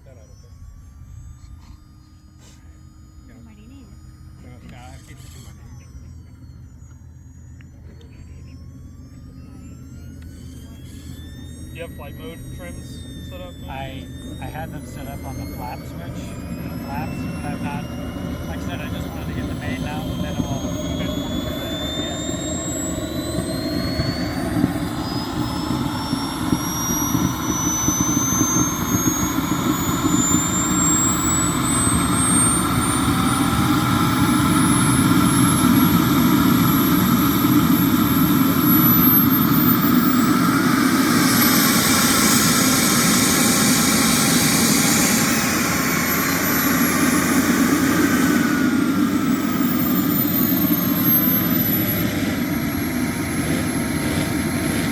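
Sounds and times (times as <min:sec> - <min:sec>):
high turbine whine: 0:00.0 - 0:54.9
model jet turbine roaring: 0:00.0 - 0:54.9.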